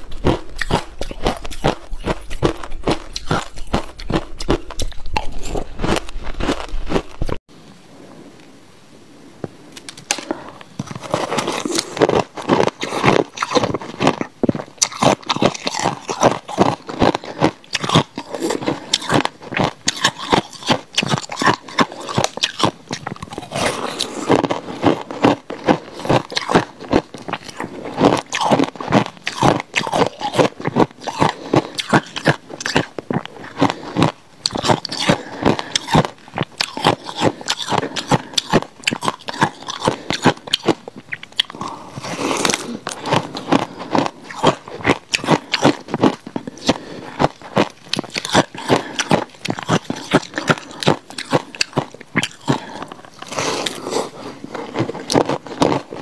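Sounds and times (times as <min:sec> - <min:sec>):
ice being chewed with crunches: 0:00.0 - 0:07.4, 0:09.8 - 0:56.0.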